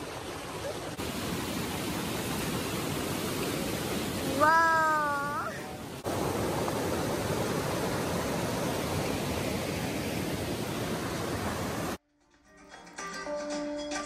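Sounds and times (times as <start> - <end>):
river water rushing over rapids: 0.0 - 12.0.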